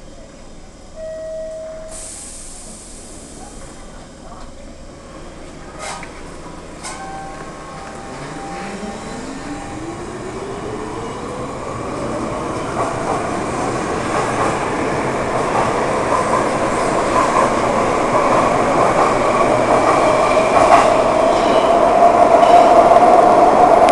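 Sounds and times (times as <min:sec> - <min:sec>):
train wheels rumbling and clattering: 0:02.6 - 0:23.9.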